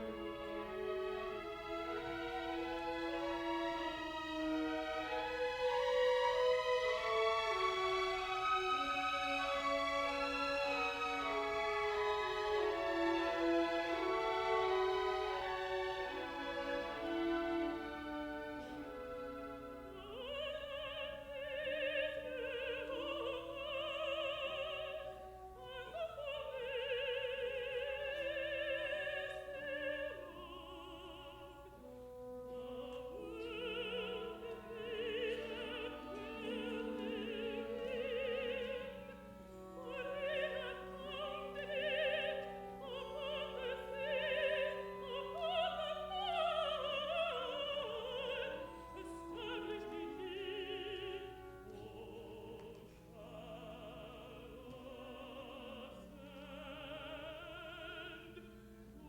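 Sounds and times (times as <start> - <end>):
contralto singing with vibrato: 0.0 - 59.0
symphony orchestra: 0.0 - 59.0.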